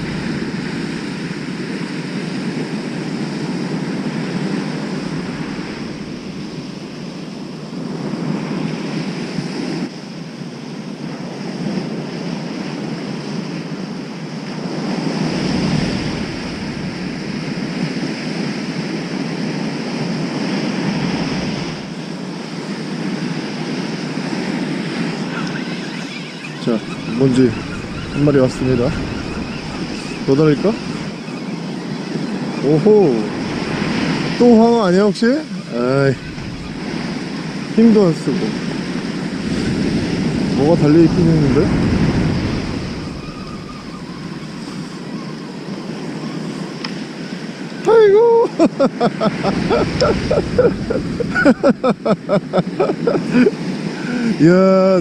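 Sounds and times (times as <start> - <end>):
surf breaking on beach: 0.0 - 10.0, 11.1 - 55.0
wind buffeting microphone: 0.0 - 55.0.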